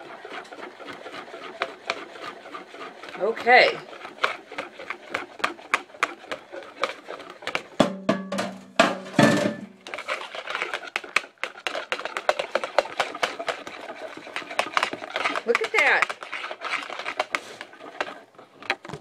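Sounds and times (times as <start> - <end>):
spoon stirring in plastic bowl: 0.0 - 8.0, 9.7 - 19.0.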